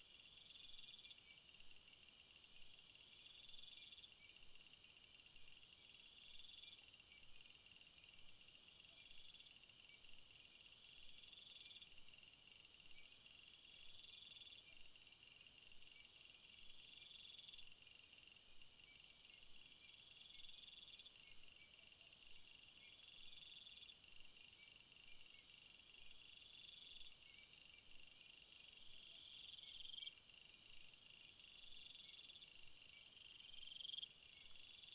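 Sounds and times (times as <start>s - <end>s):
faint insect chorus: 0.0s - 34.9s.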